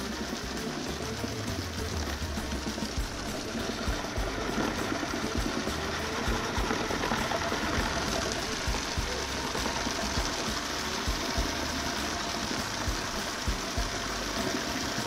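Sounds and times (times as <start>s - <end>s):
food processor running: 0.0s - 15.0s.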